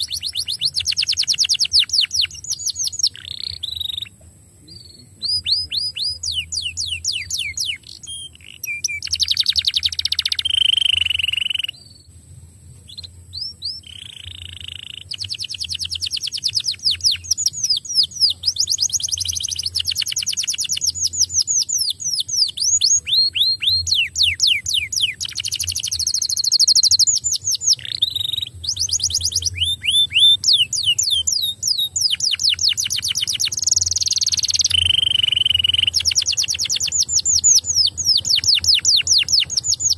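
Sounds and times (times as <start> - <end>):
canary singing: 0.0 - 12.2, 12.8 - 39.9.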